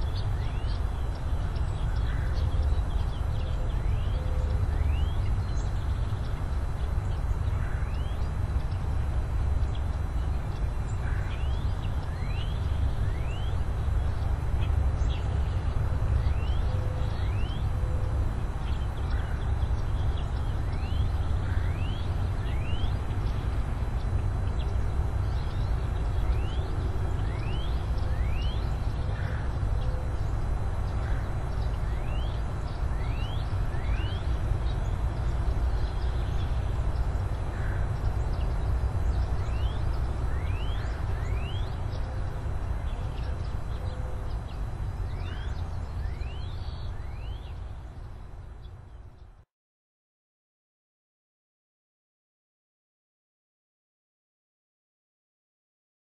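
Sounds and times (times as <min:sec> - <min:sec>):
steady low rumble: 0:00.0 - 0:49.4.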